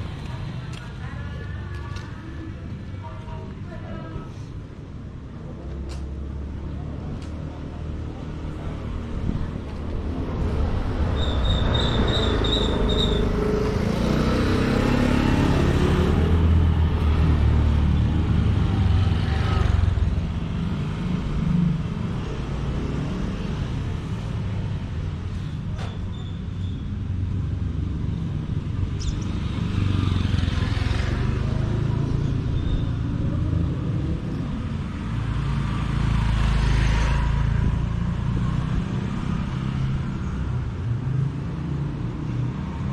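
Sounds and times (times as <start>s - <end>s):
cars and motorcycles passing: 0.0s - 42.9s
low traffic rumble: 0.0s - 42.9s.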